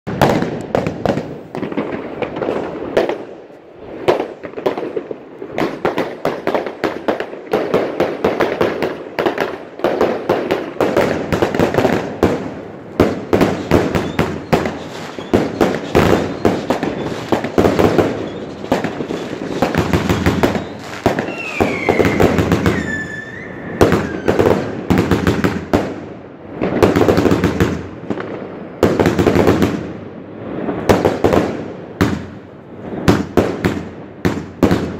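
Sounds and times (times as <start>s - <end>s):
firework crackling: 0.1s - 34.9s
fireworks firing: 0.1s - 34.9s
whistling firework: 0.1s - 34.9s.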